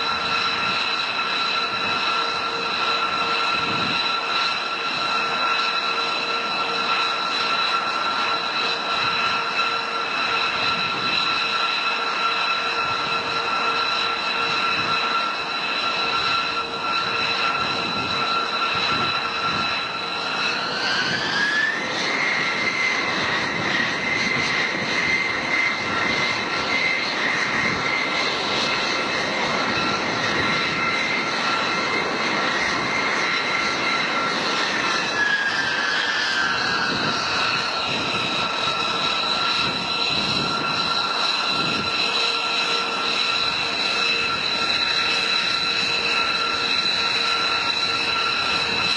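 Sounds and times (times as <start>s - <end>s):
jet engine turbine whine: 0.0s - 48.9s.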